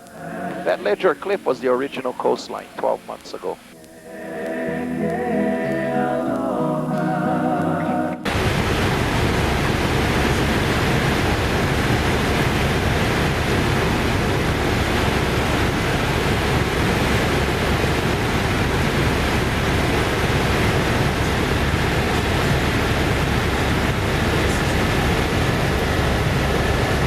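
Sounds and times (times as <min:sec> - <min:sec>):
helicopter cabin drone: 0:00.0 - 0:27.0.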